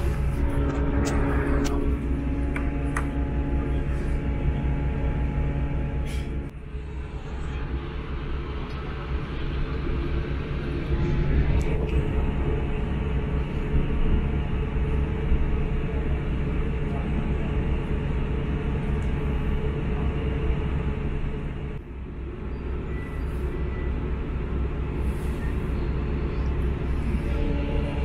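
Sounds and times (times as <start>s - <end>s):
diesel engine drone: 0.0s - 28.0s
wheel-on-rail rumble: 0.0s - 28.0s.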